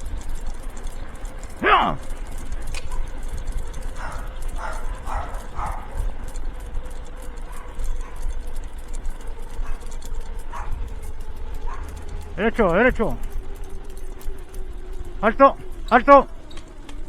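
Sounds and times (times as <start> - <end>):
dog feet ticking on pavement: 0.0 - 17.0
sled wheels rolling rumble: 0.0 - 17.0.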